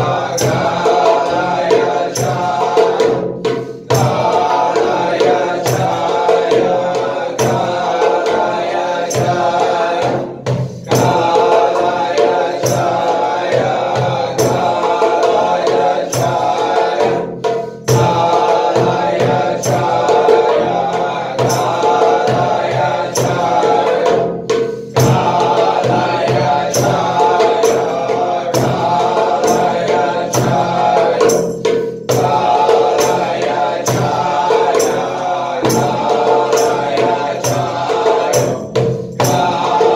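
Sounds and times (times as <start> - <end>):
chanted mantra music: 0.0 - 39.9
steady percussion beat: 0.0 - 39.9.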